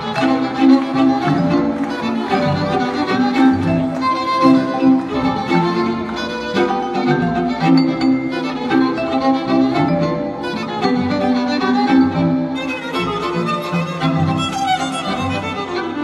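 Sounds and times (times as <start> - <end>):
string quintet playing: 0.0 - 16.0.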